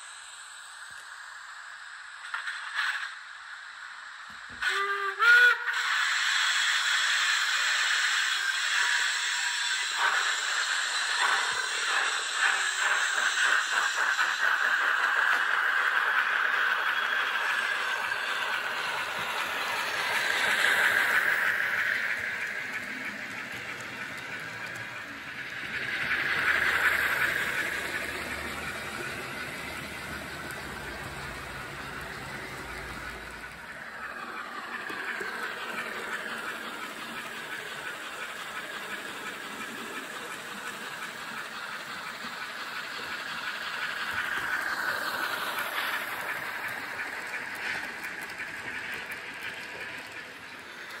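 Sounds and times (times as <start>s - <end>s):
model train wheels rattling: 7.5s - 51.0s.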